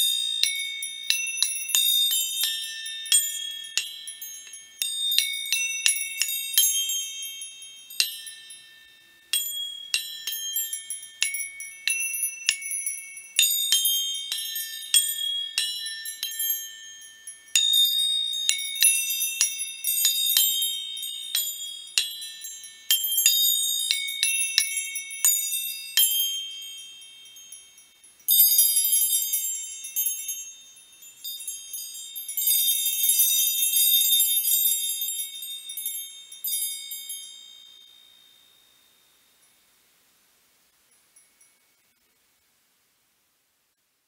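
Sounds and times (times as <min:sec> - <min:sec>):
high bell-like chimes: 0:00.0 - 0:39.8, 0:40.7 - 0:42.2.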